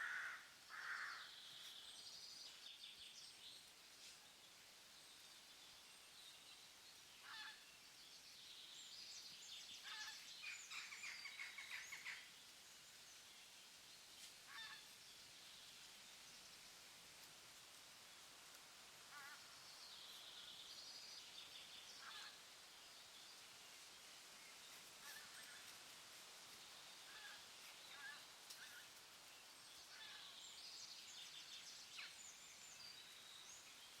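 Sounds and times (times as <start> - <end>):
songbirds chirping and trilling: 0.0 - 17.3, 18.1 - 34.0
faint forest ambience: 0.0 - 34.0
steady hiss: 0.0 - 34.0.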